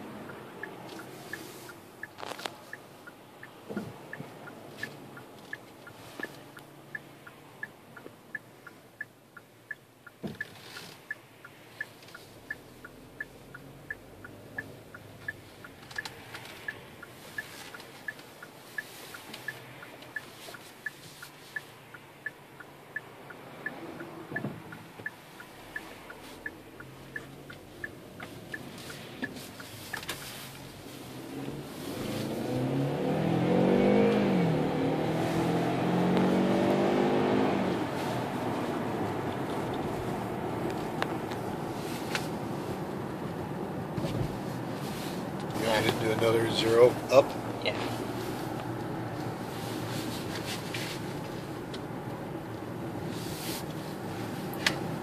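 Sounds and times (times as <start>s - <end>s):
turn signal ticking: 0.0s - 55.0s.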